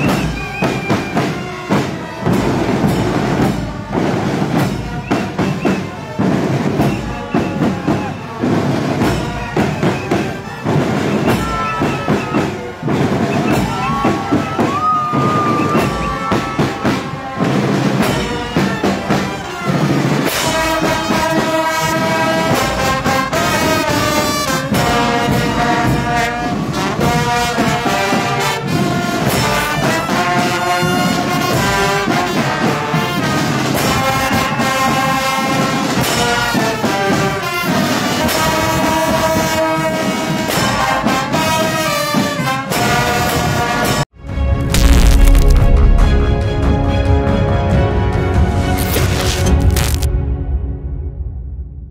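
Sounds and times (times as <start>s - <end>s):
drum beats: 0.0s - 38.5s, 40.3s - 50.1s
brass band playing: 0.0s - 51.0s.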